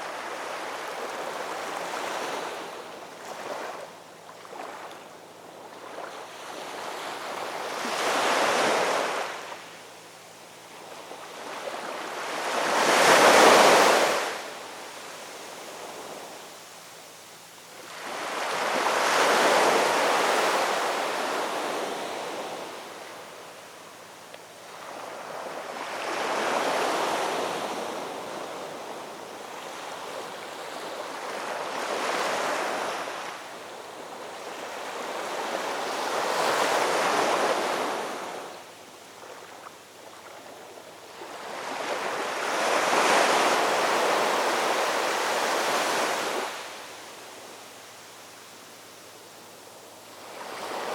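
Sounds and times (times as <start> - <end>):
ocean waves breaking on shore: 0.0 - 9.8, 10.6 - 16.6, 17.8 - 23.8, 24.6 - 47.9, 50.1 - 50.9.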